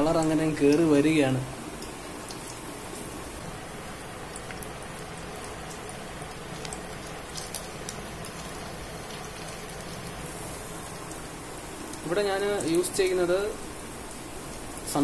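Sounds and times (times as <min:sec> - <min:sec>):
deep-frying sizzle with crackles: 0:00.0 - 0:15.0.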